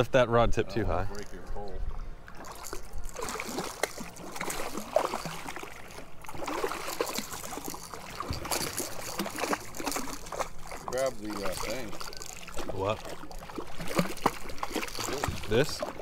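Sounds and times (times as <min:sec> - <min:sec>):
water splashing against boat hull: 0:02.3 - 0:16.0.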